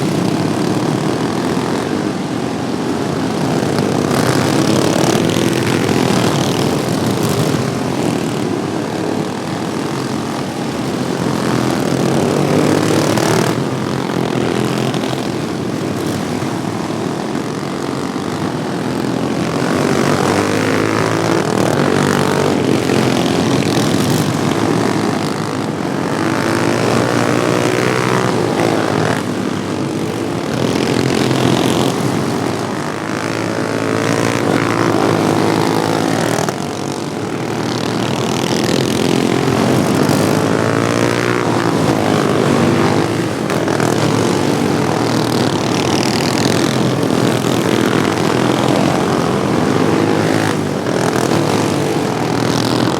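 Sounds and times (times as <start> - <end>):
small racing engines revving: 0.0 - 52.9.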